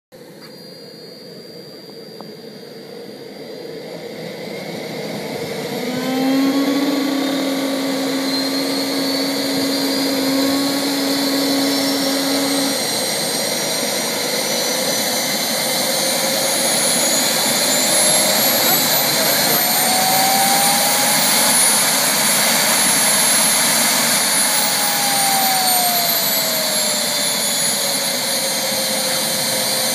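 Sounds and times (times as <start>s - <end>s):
small jet turbine engine whining: 0.1s - 29.9s.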